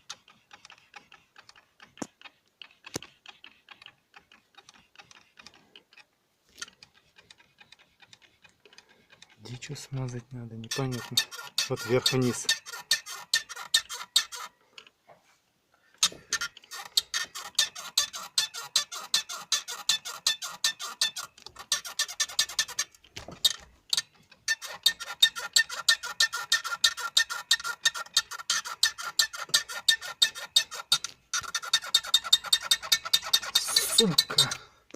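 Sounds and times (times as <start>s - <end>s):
steering column squeaking: 0.0s - 14.9s, 16.0s - 34.7s.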